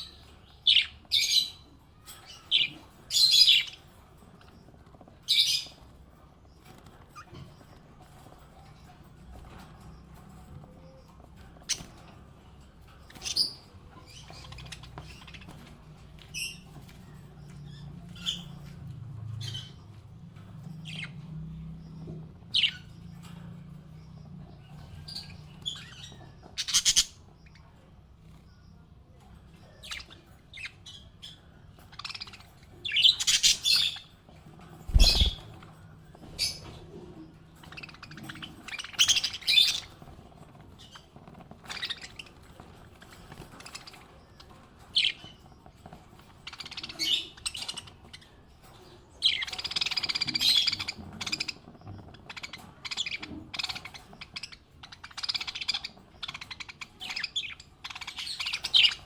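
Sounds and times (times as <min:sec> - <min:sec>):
parrots chirping and squawking: 0:00.0 - 0:28.3, 0:29.3 - 0:59.0.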